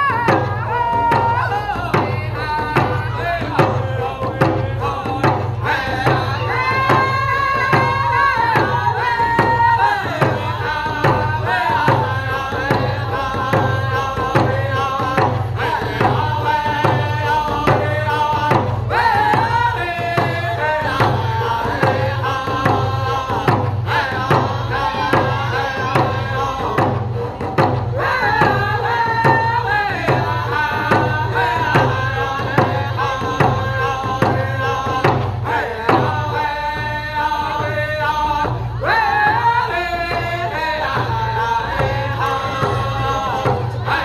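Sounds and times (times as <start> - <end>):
frame drums beaten with sticks: 0.0 - 44.0
men singing together: 0.0 - 44.0.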